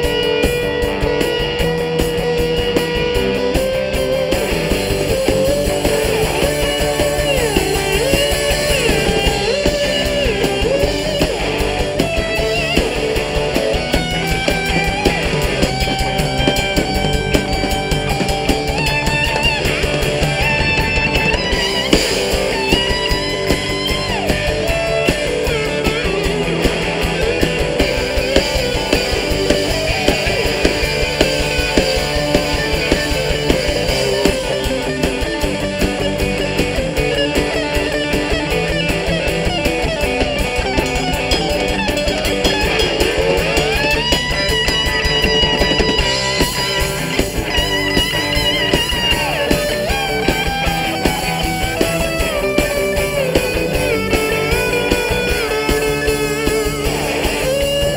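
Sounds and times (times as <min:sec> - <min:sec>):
bass and drums: 0:00.0 - 0:57.9
slide guitar lead: 0:00.0 - 0:57.9.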